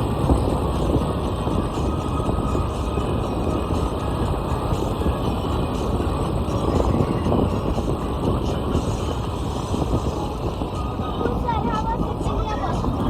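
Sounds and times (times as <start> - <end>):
vehicle road and wind rumble: 0.0 - 13.0.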